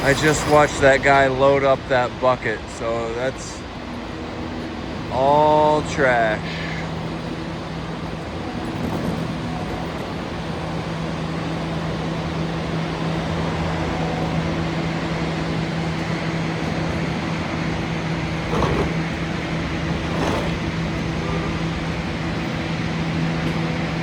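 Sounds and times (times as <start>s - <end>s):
diesel engine humming: 0.0s - 24.0s
street traffic: 0.0s - 24.0s.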